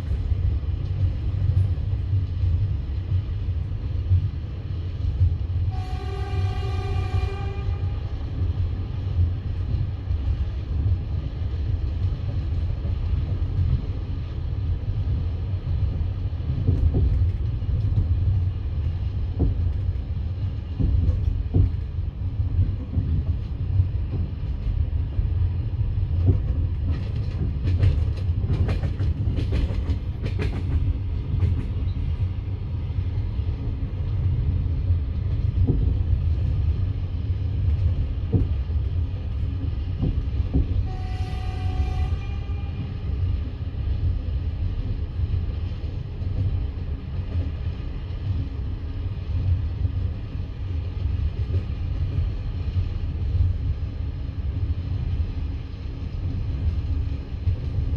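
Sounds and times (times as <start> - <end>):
train carriage rumbling on rails: 0.0 - 57.9.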